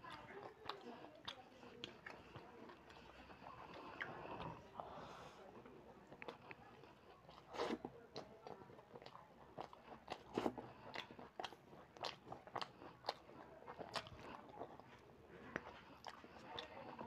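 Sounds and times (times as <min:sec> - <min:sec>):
open-mouth chewing smacks: 0:00.0 - 0:17.0.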